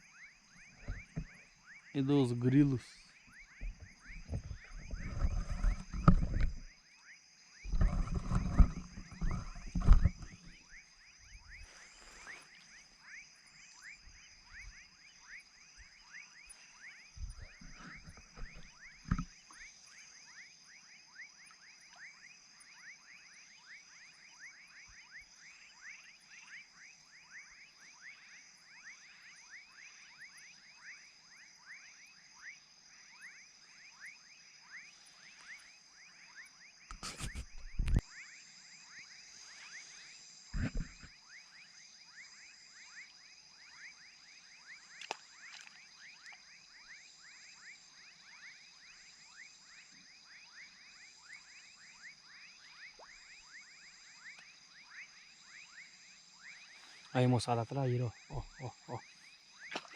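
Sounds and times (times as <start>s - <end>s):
frog calls: 0.0s - 59.9s
insect trill: 0.0s - 59.9s.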